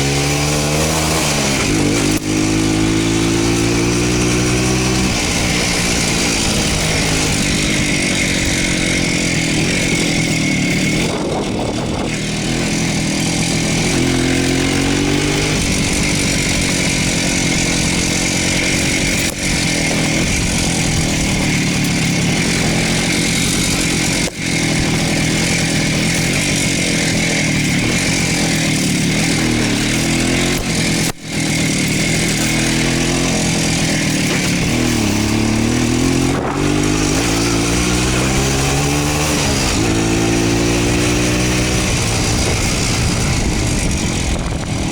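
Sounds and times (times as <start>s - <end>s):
two-stroke motorcycle engine running: 0.0s - 44.9s.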